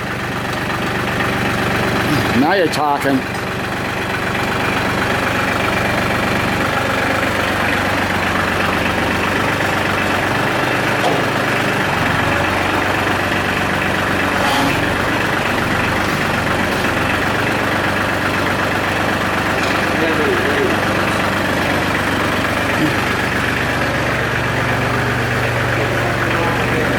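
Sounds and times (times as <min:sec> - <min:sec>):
diesel tractor engine running: 0:00.0 - 0:26.9.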